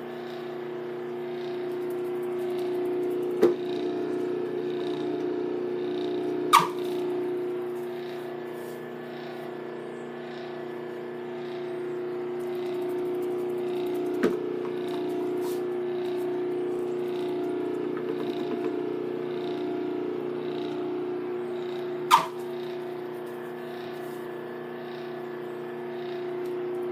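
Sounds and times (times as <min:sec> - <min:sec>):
motor humming: 0:00.0 - 0:26.9.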